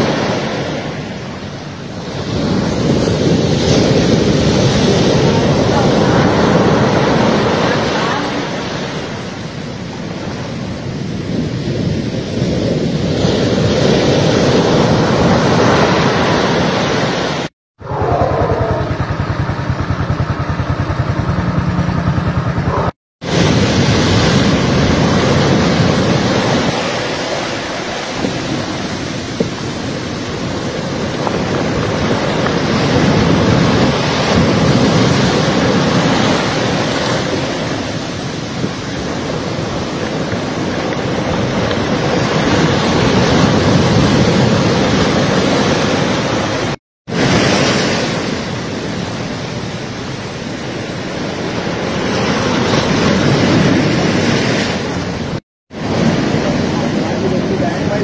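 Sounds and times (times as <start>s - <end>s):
surf breaking on shore: 0.0s - 19.8s, 21.1s - 58.0s
wind buffeting microphone: 0.0s - 58.0s.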